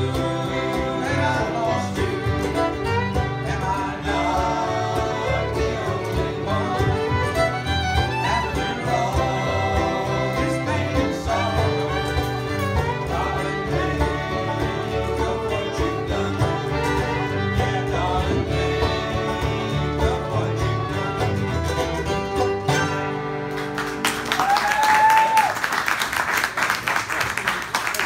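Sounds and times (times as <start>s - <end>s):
fiddles bowing: 0.0s - 23.5s
banjo: 0.0s - 24.2s
mandolin: 0.0s - 24.5s
upright bass: 0.0s - 24.6s
acoustic guitar: 0.0s - 24.7s.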